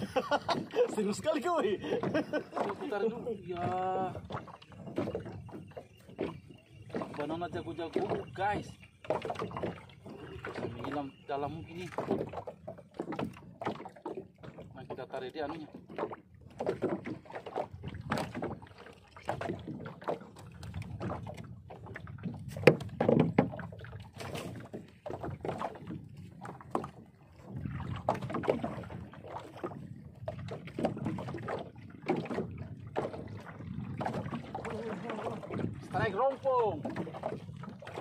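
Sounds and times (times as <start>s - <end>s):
knocks and bumps on boat: 0.0s - 38.0s.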